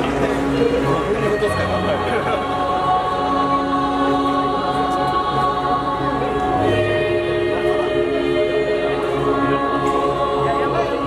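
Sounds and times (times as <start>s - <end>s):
children's choir singing: 0.0s - 11.0s.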